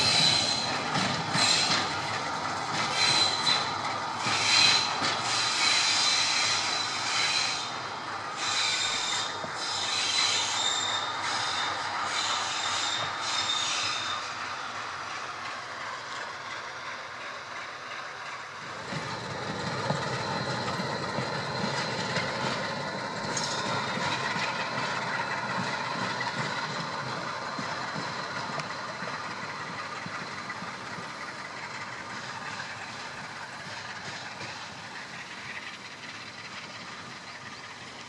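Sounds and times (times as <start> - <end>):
diesel locomotive engine rumble: 0.0 - 38.0
high rail yard hiss: 0.0 - 38.0.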